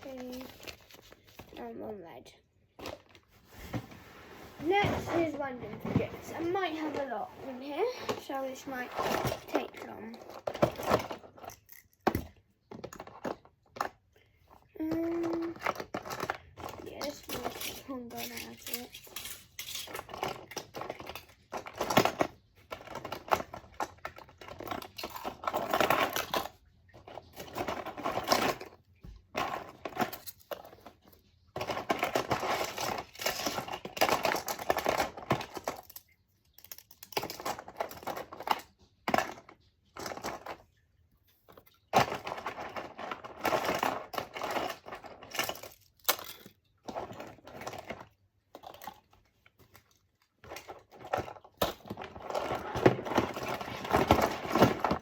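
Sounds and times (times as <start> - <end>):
plastic toys clattering: 0.0 - 3.9, 4.6 - 55.0.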